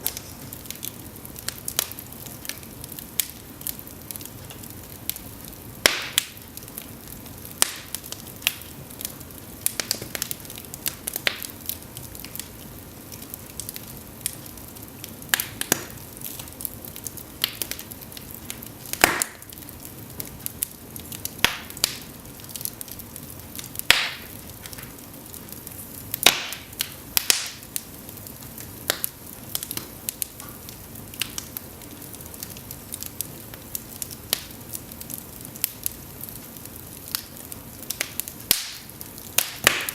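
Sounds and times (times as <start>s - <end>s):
wood burning in fireplace: 0.0s - 39.9s.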